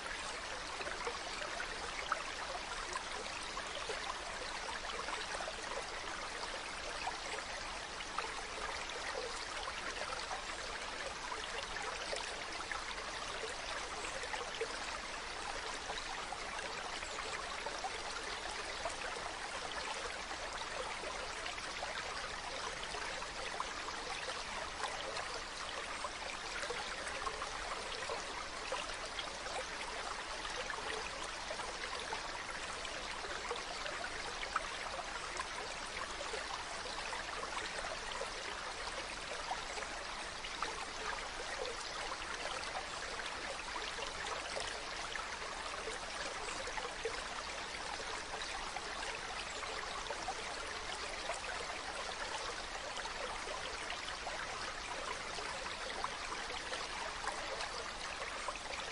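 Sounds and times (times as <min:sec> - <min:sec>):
stream running over rocks: 0:00.0 - 0:58.9.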